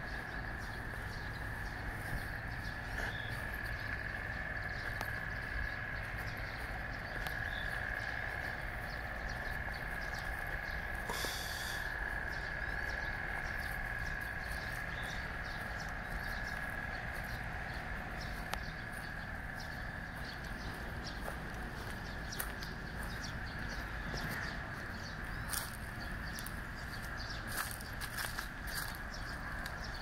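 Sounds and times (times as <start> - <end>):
wind rumble on microphone: 0.0 - 11.1, 11.9 - 30.0
insect droning: 0.0 - 30.0.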